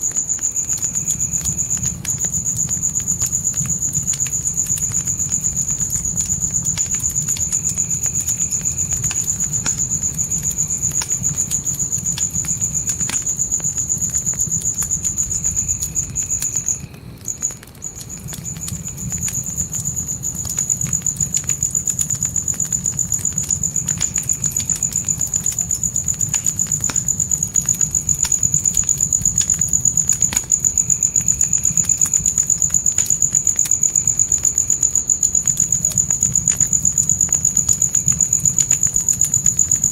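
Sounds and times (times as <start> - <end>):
crickets trilling: 0.0 - 39.9
fire crackling: 0.0 - 39.9
low rumble of flames: 0.0 - 39.9.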